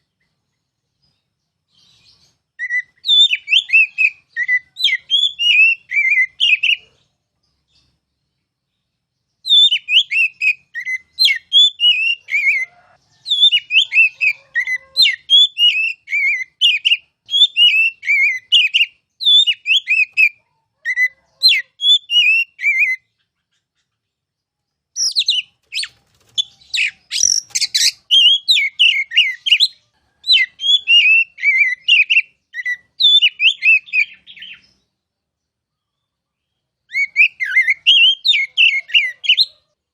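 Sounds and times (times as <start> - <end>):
bird singing whistled notes: 1.0 - 7.0, 9.2 - 23.9, 24.9 - 39.5.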